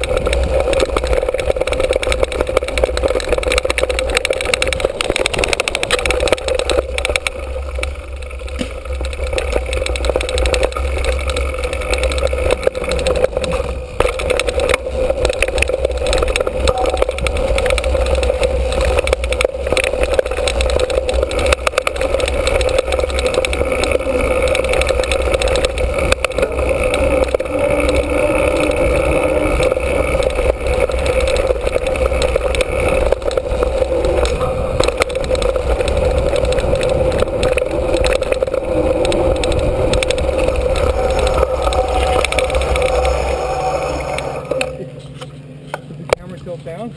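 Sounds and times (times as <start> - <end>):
bike clicks and knocks: 0.0 - 46.3
bike tyres rumbling on gravel: 0.0 - 46.9
wind: 0.0 - 46.9.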